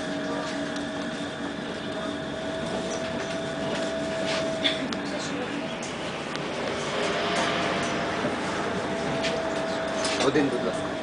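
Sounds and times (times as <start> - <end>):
trolleybus running and road noise: 0.0 - 11.0.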